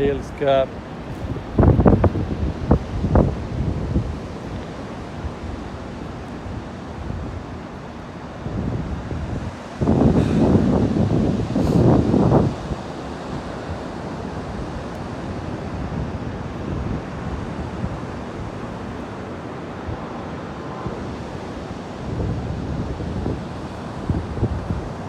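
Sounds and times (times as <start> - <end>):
ocean surf on beach: 0.0 - 25.0
wind rumbling on microphone: 0.0 - 25.0.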